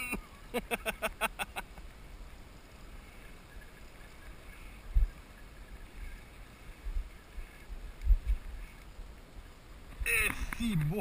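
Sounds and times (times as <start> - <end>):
wind and water hiss: 0.0 - 11.0.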